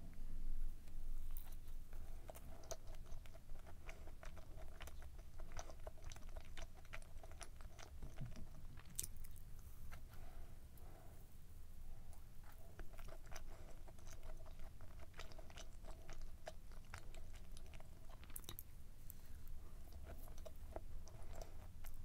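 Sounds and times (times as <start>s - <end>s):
person chewing muffin: 1.2s - 10.4s, 11.9s - 22.0s.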